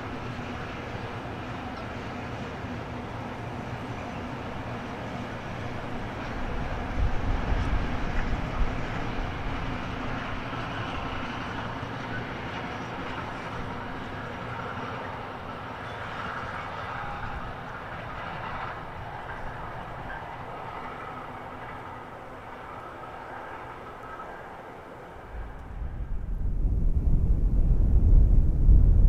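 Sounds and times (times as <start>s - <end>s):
train rolling past: 0.0s - 29.0s
wind gusting on microphone: 2.0s - 29.0s.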